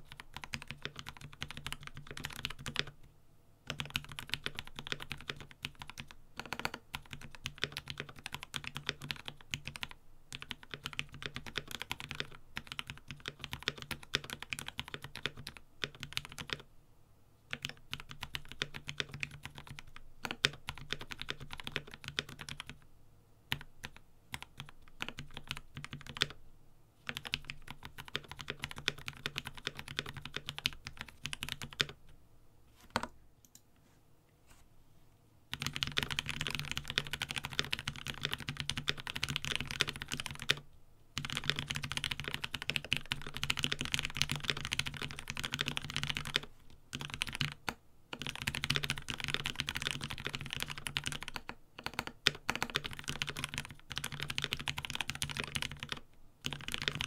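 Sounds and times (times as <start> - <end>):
mechanical keyboard typing: 0.0 - 3.0, 3.7 - 16.7, 17.5 - 22.8, 23.5 - 26.4, 27.1 - 32.0, 35.5 - 40.6, 41.2 - 57.0.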